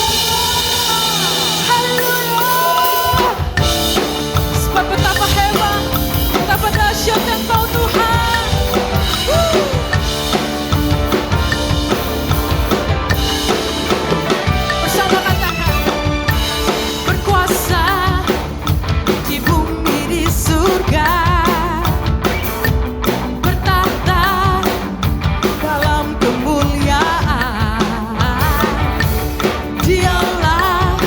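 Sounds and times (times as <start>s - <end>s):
live drum kit: 0.0s - 31.0s
sung pop backing track: 0.0s - 31.0s.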